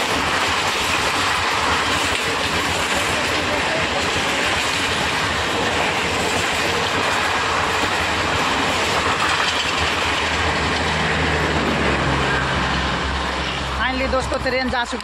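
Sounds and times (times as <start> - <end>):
clickety-clack of rail joints: 0.0 - 13.6
train wheels rumbling on rails: 0.0 - 15.0.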